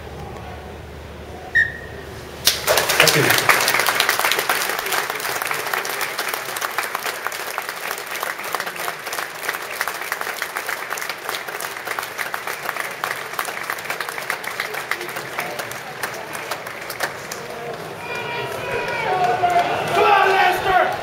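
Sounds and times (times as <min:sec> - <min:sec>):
stadium crowd applauding: 0:02.4 - 0:21.0.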